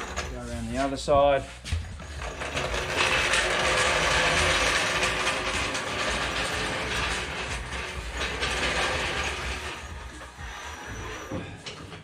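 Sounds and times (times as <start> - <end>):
trolley jack rattling on concrete: 0.0 - 0.5, 1.9 - 12.0.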